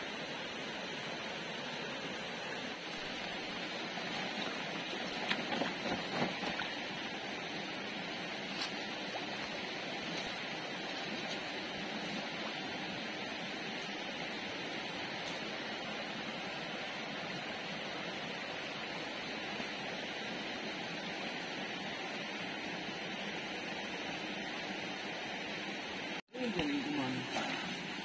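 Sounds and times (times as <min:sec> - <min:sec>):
stream water over stones: 0:00.0 - 0:28.0.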